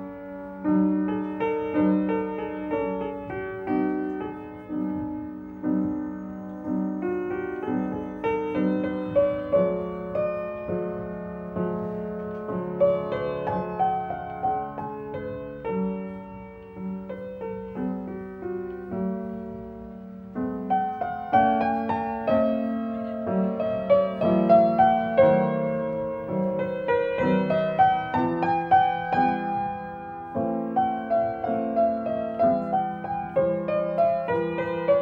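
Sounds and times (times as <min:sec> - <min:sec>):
solo piano classical piece: 0:00.0 - 0:35.0.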